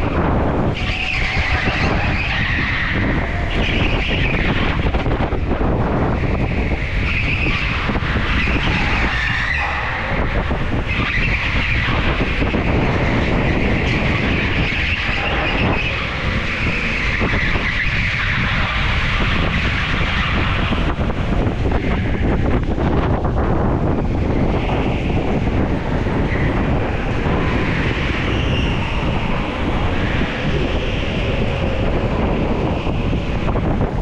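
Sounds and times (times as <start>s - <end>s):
tyre squeal: 0.0s - 5.4s, 6.1s - 20.9s, 24.3s - 33.5s
go-kart engine rumble: 0.0s - 34.0s.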